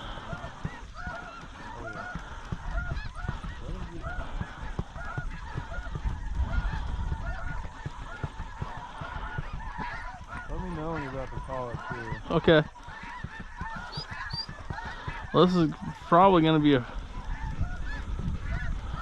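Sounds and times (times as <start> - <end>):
snow geese honking: 0.0 - 19.0.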